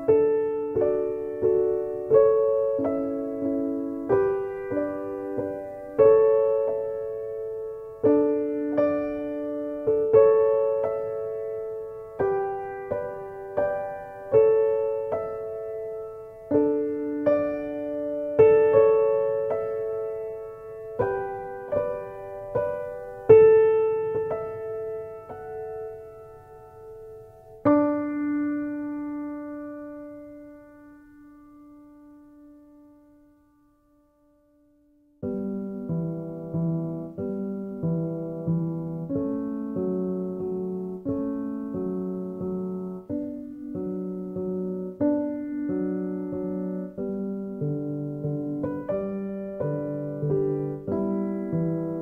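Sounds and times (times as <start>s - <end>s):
slow solo piano: 0.0s - 52.0s.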